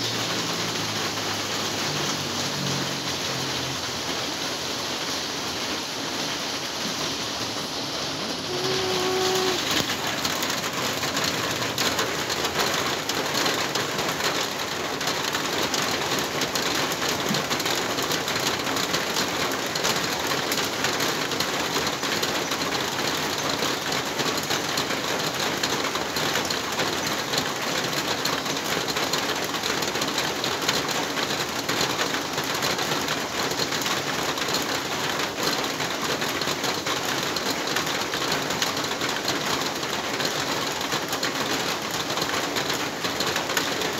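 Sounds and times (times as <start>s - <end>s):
heavy rain on metal roof: 0.0s - 43.9s.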